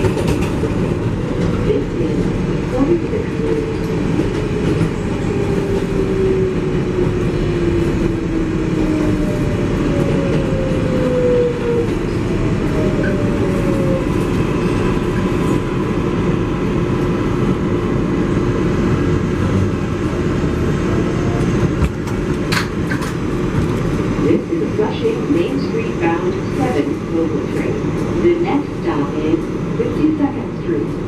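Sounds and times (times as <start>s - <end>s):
subway train rumble and hiss: 0.0s - 31.0s.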